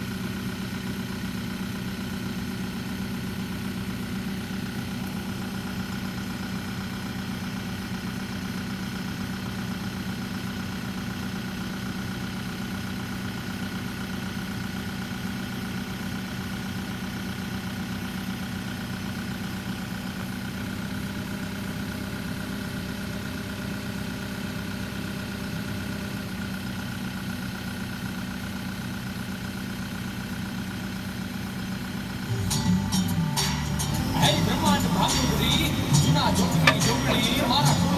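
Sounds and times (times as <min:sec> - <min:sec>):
diesel engine idling: 0:00.0 - 0:37.9.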